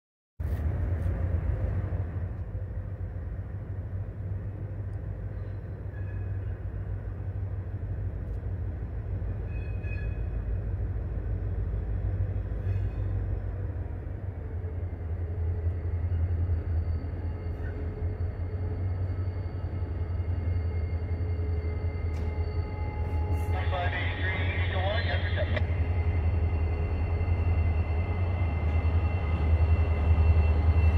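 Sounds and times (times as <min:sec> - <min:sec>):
locomotive engines rumbling: 0:00.6 - 0:30.9.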